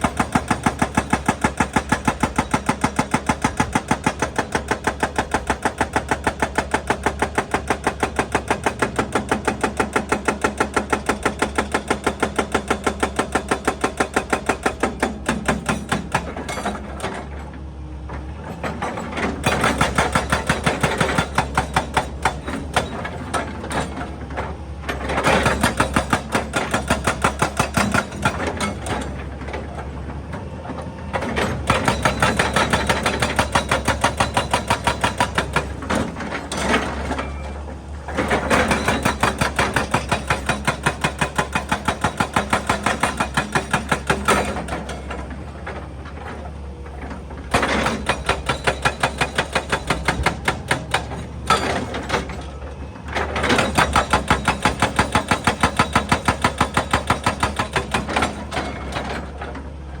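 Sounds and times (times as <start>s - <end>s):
hydraulic breaker hammering rock: 0.0s - 17.4s, 18.4s - 30.0s, 30.7s - 59.6s.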